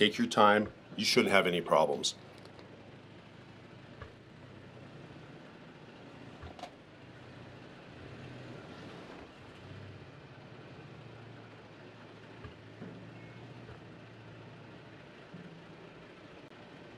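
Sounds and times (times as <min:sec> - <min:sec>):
truck engine humming: 0:00.0 - 0:16.9.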